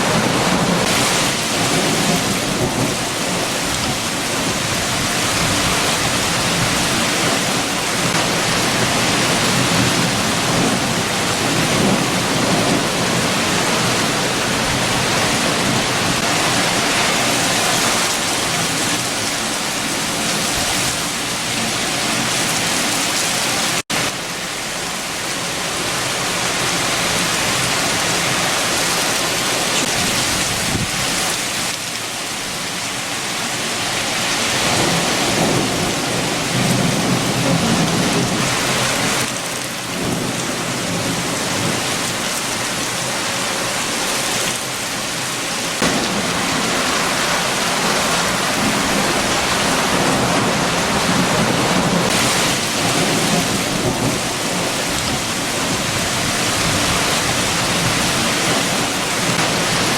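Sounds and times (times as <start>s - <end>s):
heavy rain falling: 0.0s - 59.9s
strong wind: 0.0s - 59.9s.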